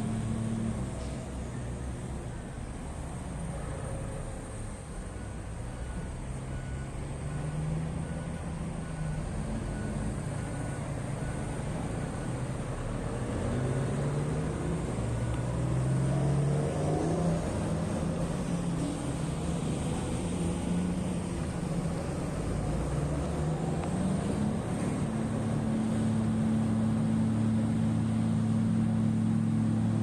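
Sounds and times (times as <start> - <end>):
heavy diesel engine under load: 0.0 - 30.0.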